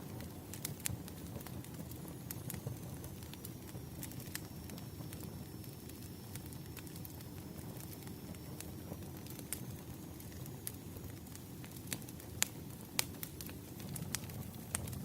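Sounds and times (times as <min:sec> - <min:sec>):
campfire crackling and popping: 0:00.0 - 0:15.0
rumble of burning wood: 0:00.0 - 0:15.0.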